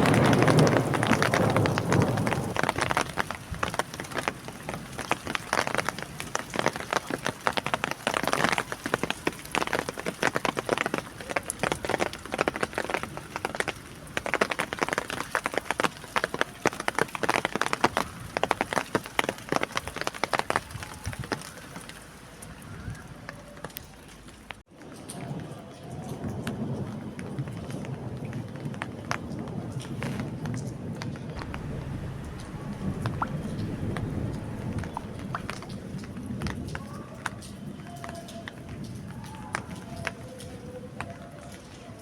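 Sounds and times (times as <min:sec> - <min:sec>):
rain on a hard surface: 0:00.0 - 0:42.0.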